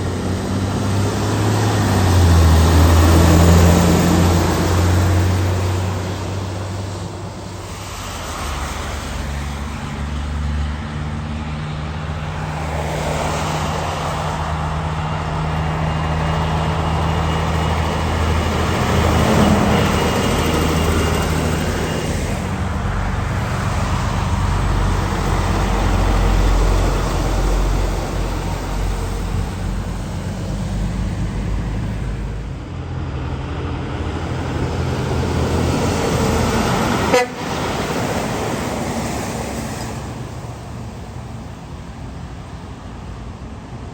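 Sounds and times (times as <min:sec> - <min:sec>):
heavy trucks driving past: 0:00.0 - 0:43.9.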